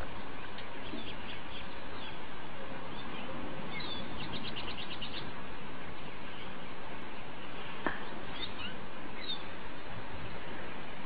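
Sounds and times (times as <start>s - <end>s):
birds chirping: 0.0s - 10.5s
steady background hiss: 0.0s - 11.0s.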